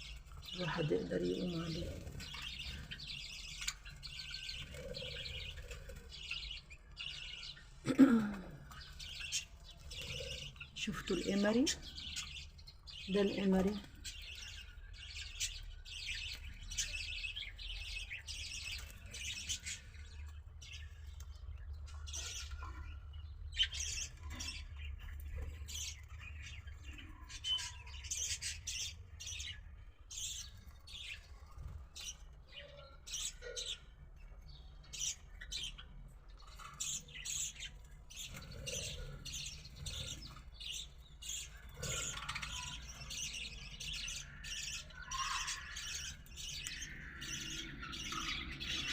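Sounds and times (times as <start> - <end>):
birds chirping and squawking: 0.0 - 48.9.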